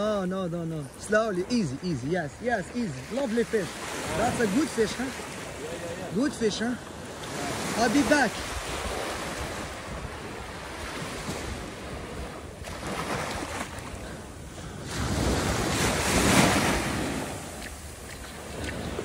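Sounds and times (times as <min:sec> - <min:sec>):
small waves washing on sand: 0:00.0 - 0:19.0.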